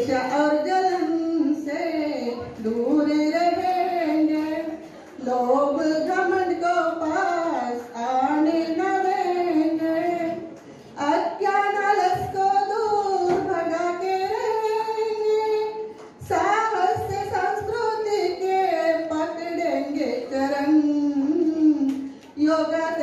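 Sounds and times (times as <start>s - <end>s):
woman singing into a microphone: 0.0s - 23.0s.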